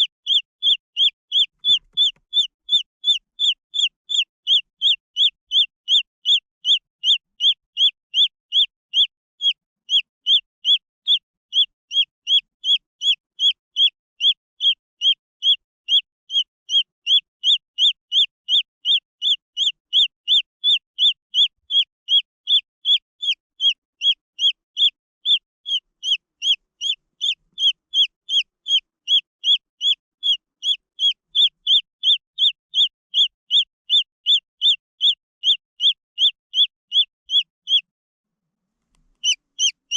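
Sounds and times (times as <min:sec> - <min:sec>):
chicks peeping: 0:00.0 - 0:37.8, 0:39.0 - 0:39.9.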